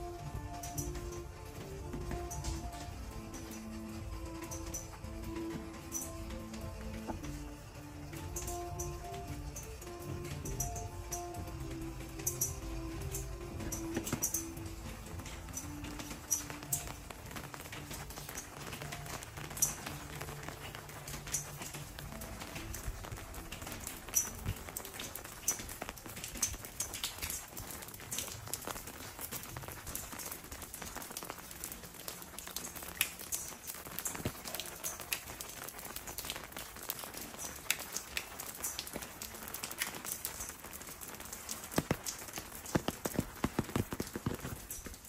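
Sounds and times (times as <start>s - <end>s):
rain on stone paving: 0.0s - 45.0s.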